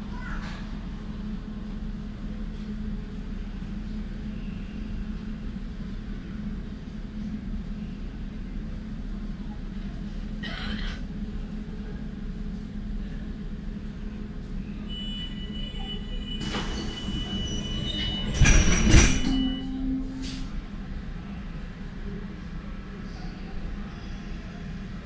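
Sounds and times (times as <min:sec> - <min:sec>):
train low hum: 0:00.0 - 0:25.0.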